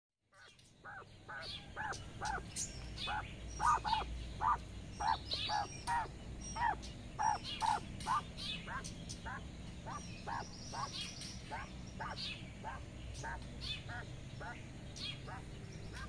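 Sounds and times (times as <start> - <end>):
quail hen calling: 0.3 - 16.0.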